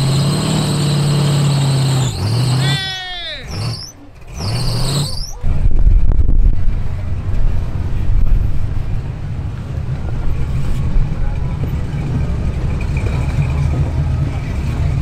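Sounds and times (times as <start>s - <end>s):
buggy engine under load: 0.0s - 15.0s.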